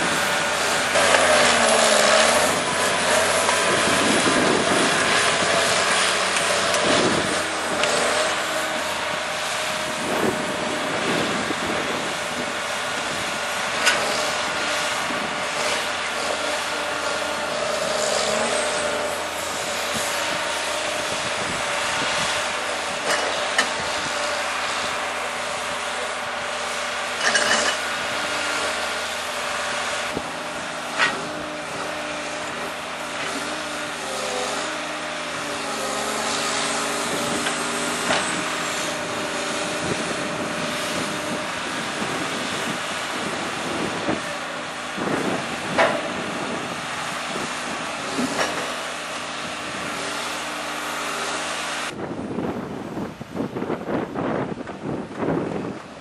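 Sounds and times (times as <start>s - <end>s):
diesel engine running: 0.0s - 56.0s
hydraulic crane: 0.0s - 56.0s.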